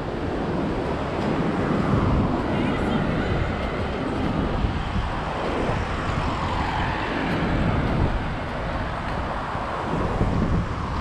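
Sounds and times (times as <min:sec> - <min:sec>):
cars passing: 0:00.0 - 0:11.0
steady low rumble: 0:00.0 - 0:11.0.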